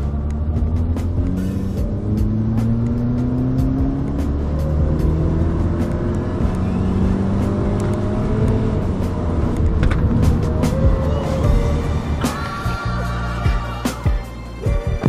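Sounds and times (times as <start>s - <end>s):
car engine accelerating hard: 0.0s - 13.8s.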